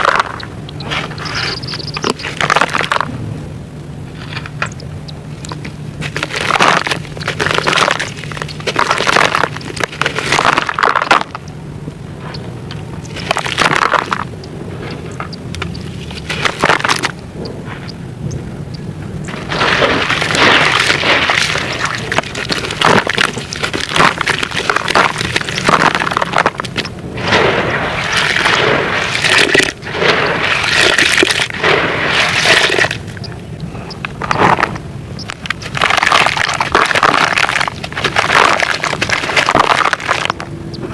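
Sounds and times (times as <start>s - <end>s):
sand-cement crunching: 0.0s - 3.2s, 4.0s - 11.5s, 12.2s - 18.1s, 19.0s - 33.3s, 33.9s - 40.9s.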